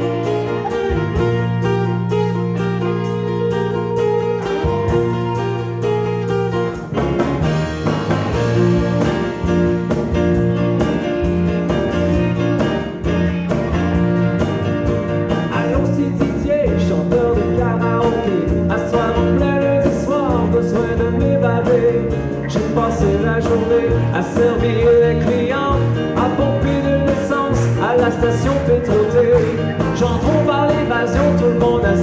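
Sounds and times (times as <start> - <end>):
drum kit beat: 0.0 - 32.0
rock band playing: 0.0 - 32.0.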